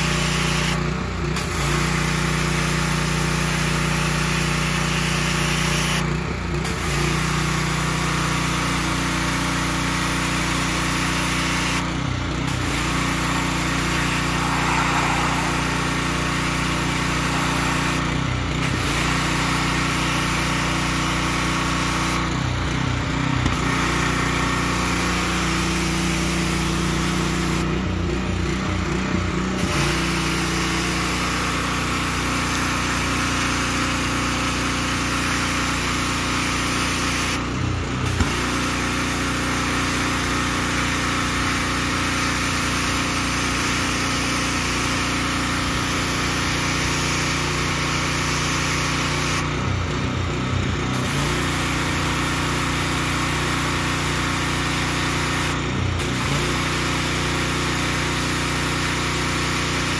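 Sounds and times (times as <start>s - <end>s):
water jet spraying on pavers: 0.0s - 6.0s, 6.6s - 22.7s, 23.5s - 27.7s, 29.6s - 49.9s, 51.0s - 59.9s
small engine running: 0.0s - 59.9s.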